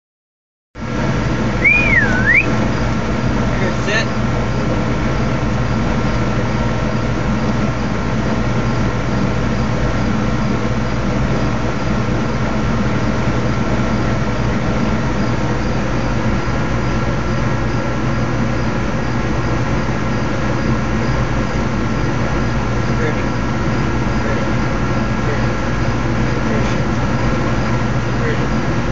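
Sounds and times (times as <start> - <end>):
mechanical drone with low hum: 0.8 - 28.9.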